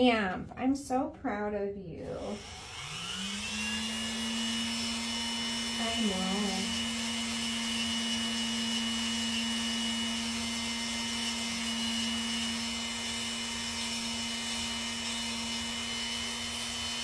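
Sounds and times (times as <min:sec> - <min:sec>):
rotary nail grinder running: 0:02.0 - 0:17.0.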